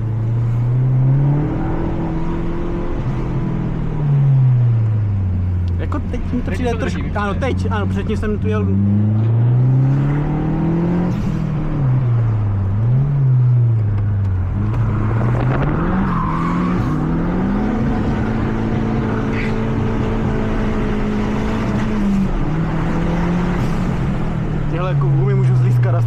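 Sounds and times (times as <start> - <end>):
car engine at speed: 0.0 - 26.0.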